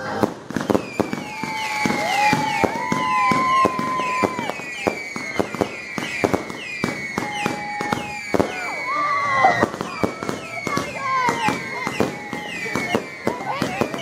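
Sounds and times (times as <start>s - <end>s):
firecrackers banging: 0.0s - 14.0s
falling whistling chirp: 0.6s - 14.0s
long held whistle: 0.6s - 14.0s.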